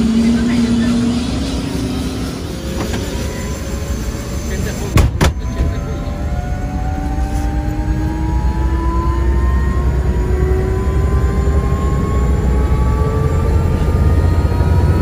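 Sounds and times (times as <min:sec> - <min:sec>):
helicopter engine drone and whine: 0:00.0 - 0:15.0.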